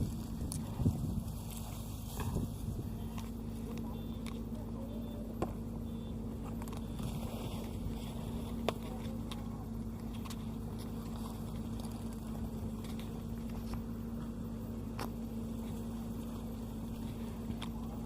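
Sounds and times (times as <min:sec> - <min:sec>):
harvester engine running: 0:00.0 - 0:18.0.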